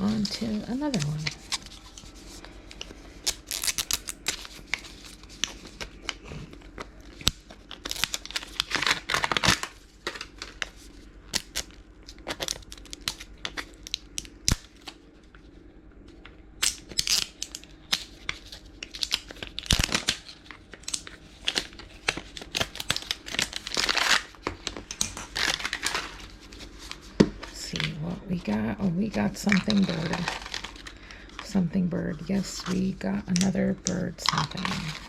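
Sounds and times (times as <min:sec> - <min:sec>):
plastic packaging crinkling: 0:00.0 - 0:15.6, 0:16.6 - 0:35.0.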